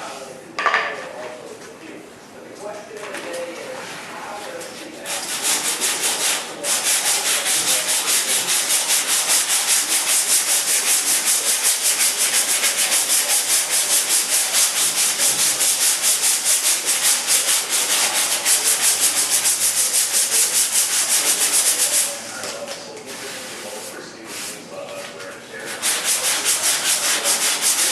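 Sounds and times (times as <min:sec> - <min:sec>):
sandpaper rubbing: 0:05.0 - 0:27.9.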